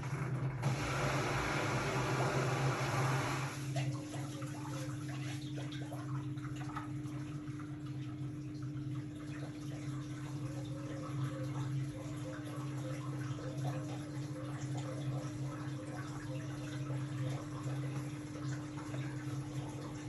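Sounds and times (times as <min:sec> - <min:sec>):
washing machine hum: 0:00.0 - 0:20.0
water rushing into washing machine: 0:00.0 - 0:20.0
water splashing in drum: 0:00.0 - 0:20.0.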